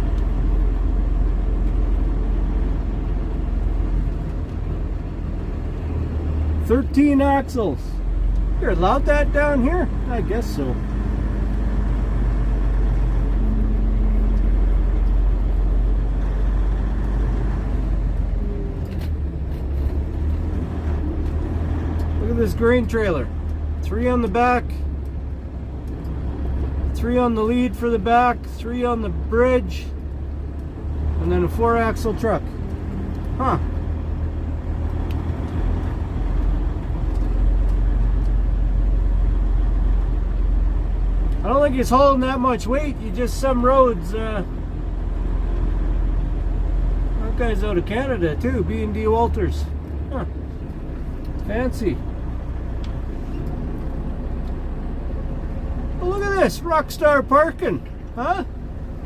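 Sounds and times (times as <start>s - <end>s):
diesel truck engine rumbling: 0.0s - 59.0s.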